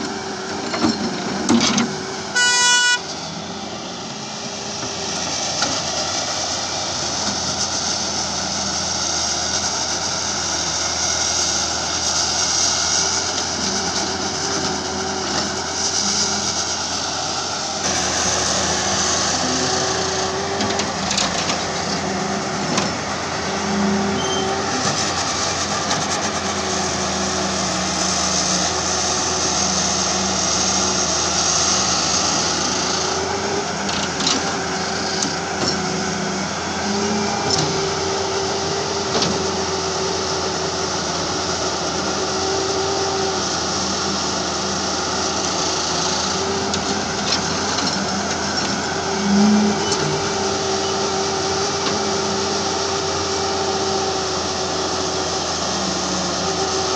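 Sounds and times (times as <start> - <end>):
excavator diesel engine and hydraulics: 0.0 - 56.9.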